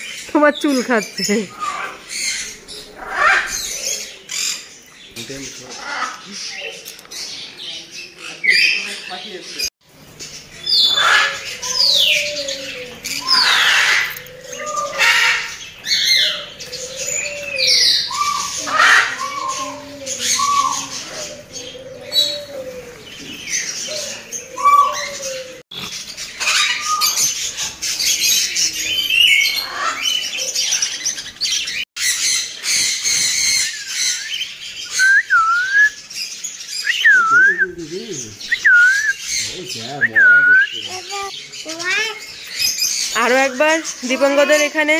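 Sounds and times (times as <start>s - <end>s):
birds squawking and chirping: 0.0s - 44.9s.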